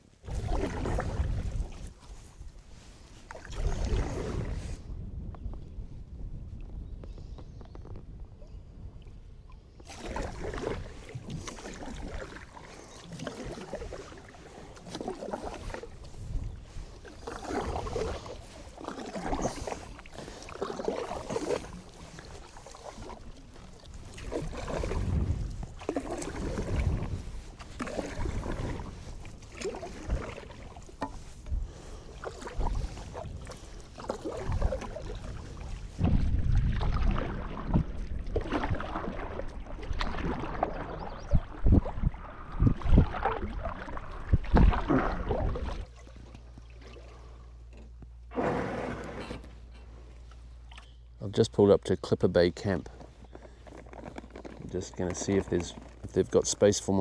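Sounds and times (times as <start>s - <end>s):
canoe paddle strokes in water: 0.0s - 5.0s, 9.8s - 51.0s, 52.4s - 57.0s.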